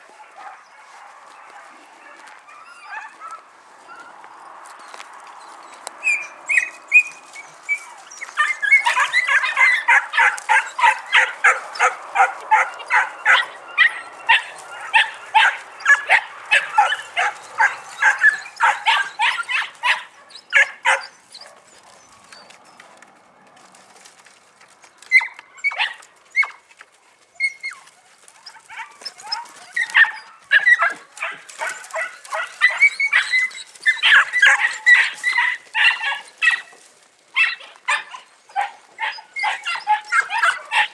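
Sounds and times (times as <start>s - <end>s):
puppies yapping: 0.0s - 40.9s.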